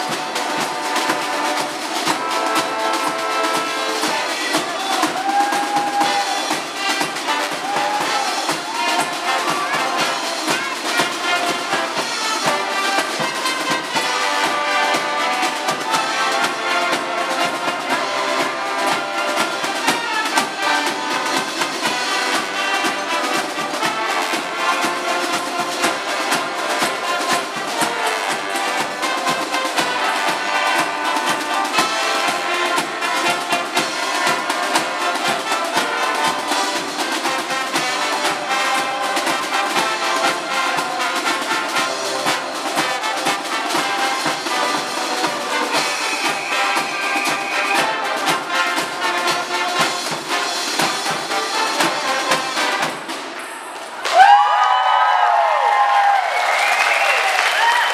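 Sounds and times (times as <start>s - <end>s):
snare drums keeping steady beat: 0.0s - 54.3s
brass band playing: 0.0s - 57.9s.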